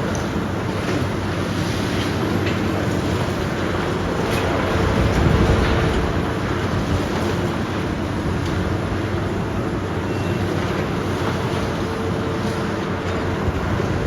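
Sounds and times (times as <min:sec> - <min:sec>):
heavy demolition machinery running: 0:00.0 - 0:14.0.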